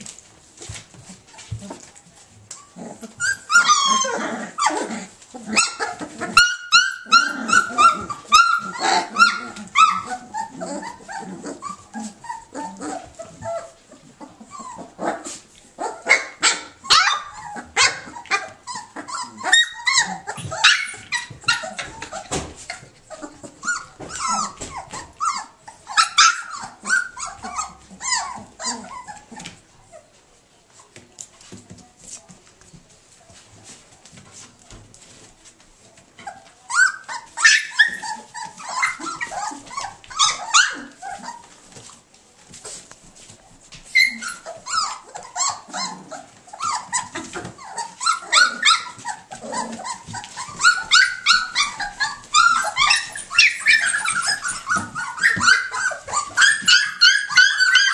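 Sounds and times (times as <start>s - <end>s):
puppies yipping and whining: 0.1s - 30.2s, 34.4s - 57.9s.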